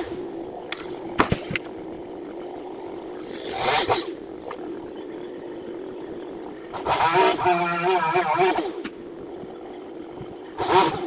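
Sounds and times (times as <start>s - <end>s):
chainsaw engine idling: 0.0s - 11.0s.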